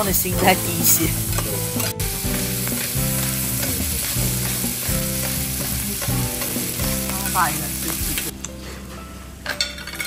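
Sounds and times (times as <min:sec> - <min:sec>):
food sizzling on griddle: 0:00.0 - 0:08.3.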